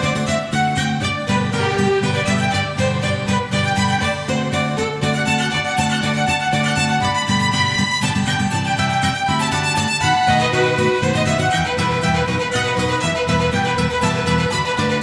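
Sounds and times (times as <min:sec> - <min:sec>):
violin music: 0:00.0 - 0:15.0.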